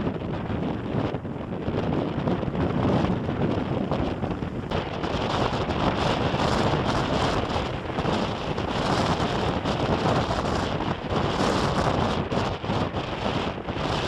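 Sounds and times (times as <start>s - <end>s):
storm wind blasting microphone: 0.0s - 14.0s.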